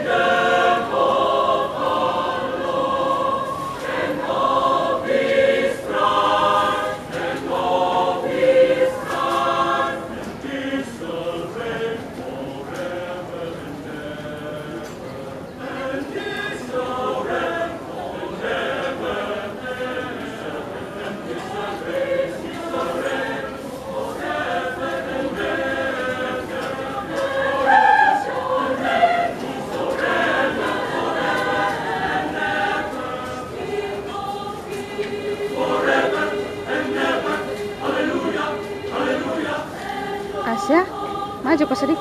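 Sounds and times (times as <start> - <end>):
mixed choir singing: 0.0 - 42.0.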